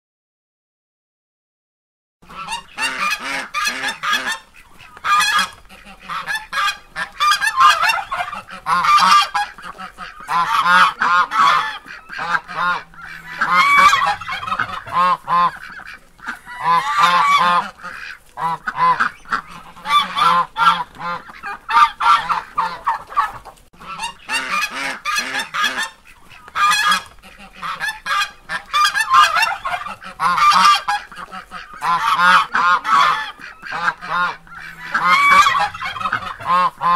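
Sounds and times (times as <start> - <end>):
goose honking: 2.2 - 36.9.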